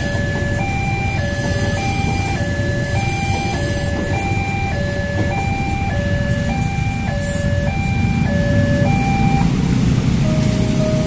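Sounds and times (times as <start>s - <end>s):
level crossing warning alarm: 0.0s - 11.0s
motorcycle engines idling: 0.0s - 11.0s.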